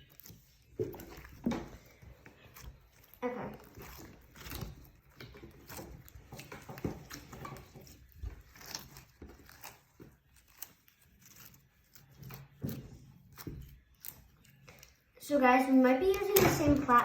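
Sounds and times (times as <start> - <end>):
slime squelching: 0.0 - 17.0.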